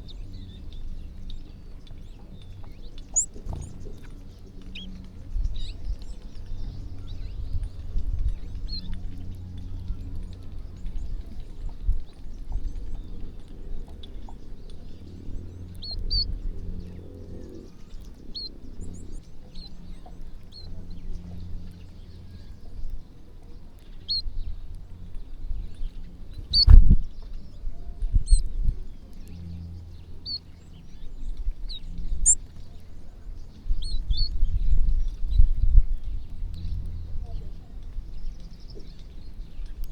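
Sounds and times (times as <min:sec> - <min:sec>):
low rumbling background: 0:00.0 - 0:39.9
small birds chirping: 0:00.0 - 0:39.9.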